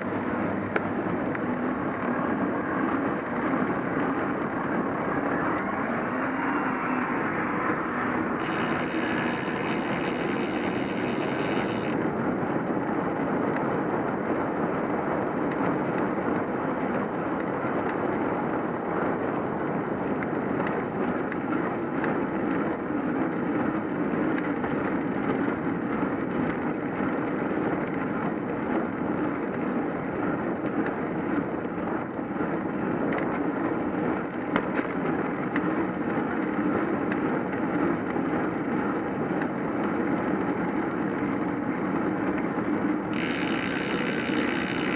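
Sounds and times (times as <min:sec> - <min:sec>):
wind over microphone: 0:00.0 - 0:44.9.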